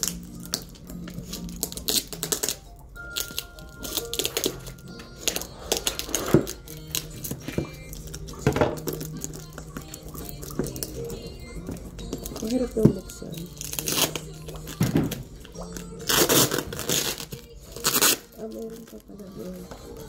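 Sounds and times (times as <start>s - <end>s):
scissors cutting packing tape: 0.0s - 11.1s, 12.0s - 19.5s
tape crinkling and tearing: 0.0s - 11.2s, 12.0s - 19.6s
background music: 0.0s - 20.0s.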